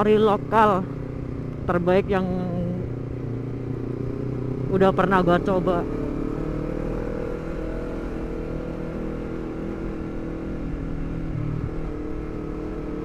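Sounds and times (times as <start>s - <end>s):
motorcycle engine at light throttle: 0.0s - 13.0s.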